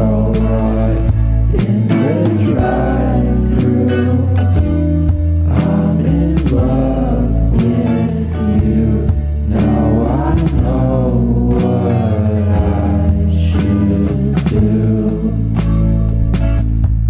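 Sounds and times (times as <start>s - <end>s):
song with singing over a beat: 0.0s - 16.7s.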